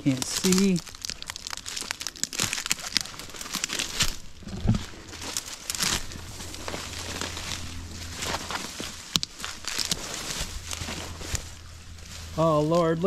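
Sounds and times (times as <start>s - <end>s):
stepping through dry brush: 0.0s - 13.0s.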